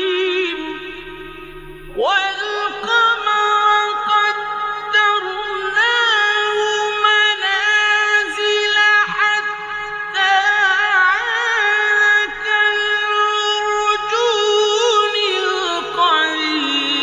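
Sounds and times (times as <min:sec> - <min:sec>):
man chanting recitation: 0:00.0 - 0:01.1, 0:01.9 - 0:17.0.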